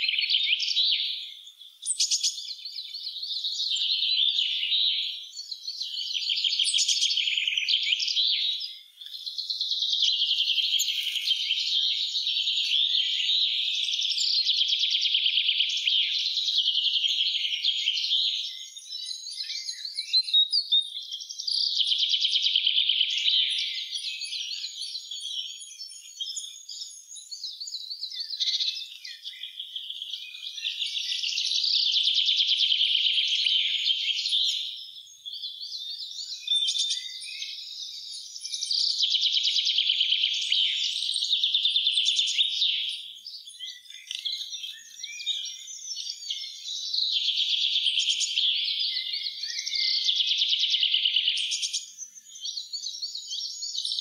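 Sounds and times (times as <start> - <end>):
bird chirps and calls: 0.0 - 54.0
loud trilling birdsong: 0.0 - 54.0.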